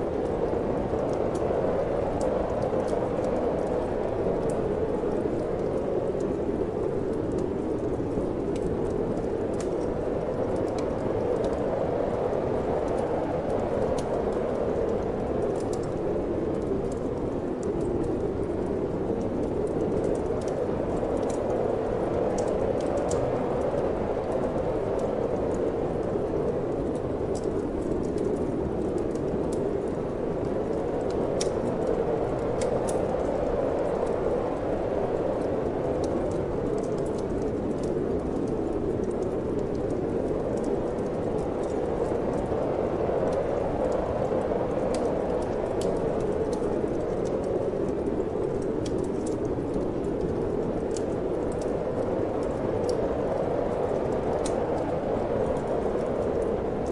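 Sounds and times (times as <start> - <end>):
wind noise: 0.0 - 56.9
wood fire crackling: 0.0 - 56.9.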